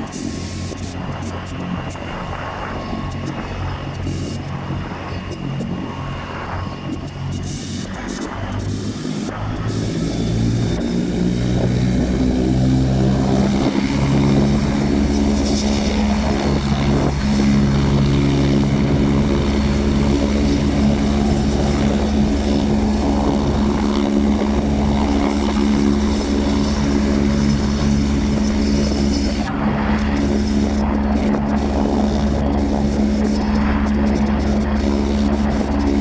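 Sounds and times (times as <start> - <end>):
helicopter rotor and turbine whine: 0.0 - 36.0.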